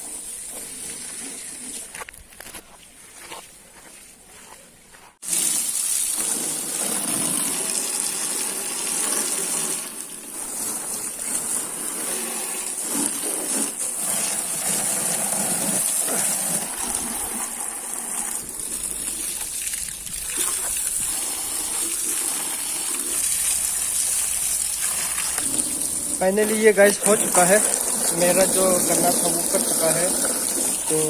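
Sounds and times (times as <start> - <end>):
water jet spraying: 0.0 - 1.9, 5.2 - 31.0.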